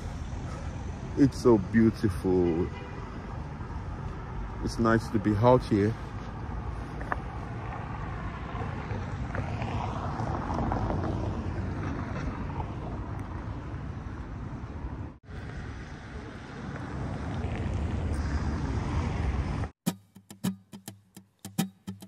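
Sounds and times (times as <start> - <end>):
outdoor town ambience: 0.0 - 22.0.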